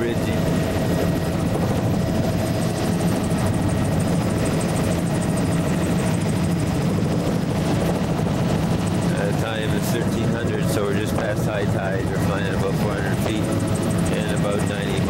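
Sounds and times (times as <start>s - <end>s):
aircraft engine drone in cabin: 0.0s - 15.0s.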